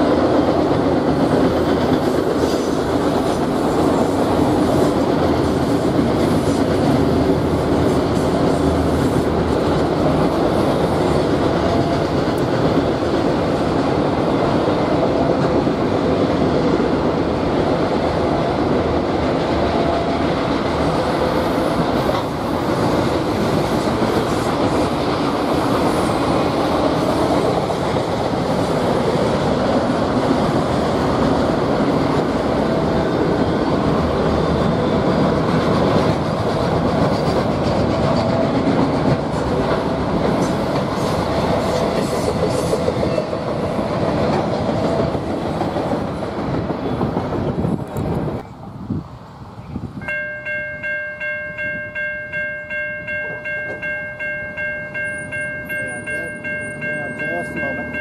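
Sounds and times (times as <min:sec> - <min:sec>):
wheels clattering on rails: 0:00.0 - 0:48.5
freight train rumbling: 0:00.0 - 0:58.0.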